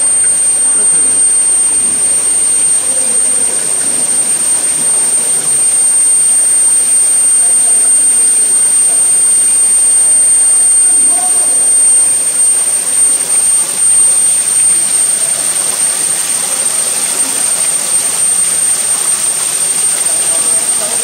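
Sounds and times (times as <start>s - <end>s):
high-pitched machine whine: 0.0s - 21.0s
water spraying under pressure: 0.0s - 21.0s.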